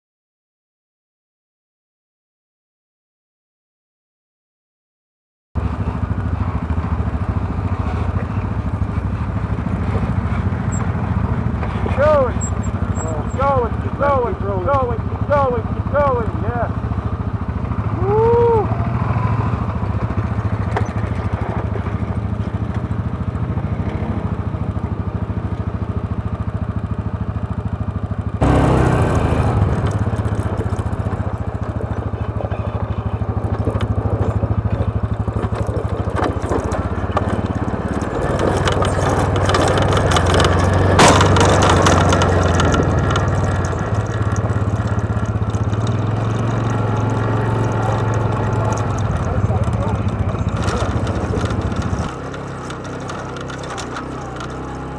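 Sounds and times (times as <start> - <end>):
atv engine running: 5.6 - 54.9.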